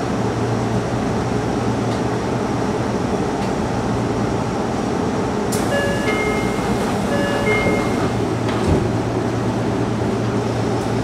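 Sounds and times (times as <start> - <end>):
electric train humming and hissing: 0.0 - 11.0.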